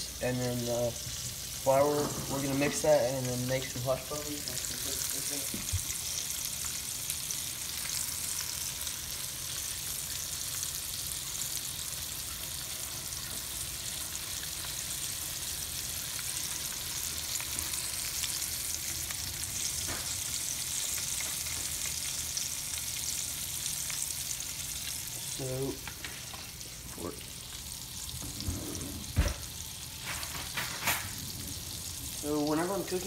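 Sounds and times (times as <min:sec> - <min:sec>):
fish frying in hot oil: 0:00.0 - 0:28.2, 0:29.0 - 0:33.0.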